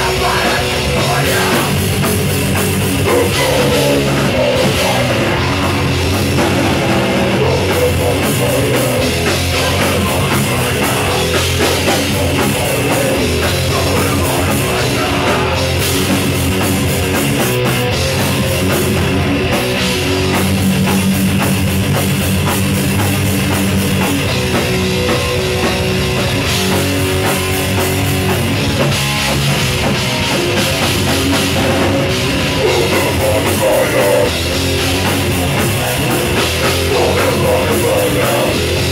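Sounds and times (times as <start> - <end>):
distorted electric guitar: 0.0 - 38.9
fast pounding drum kit: 0.0 - 38.9.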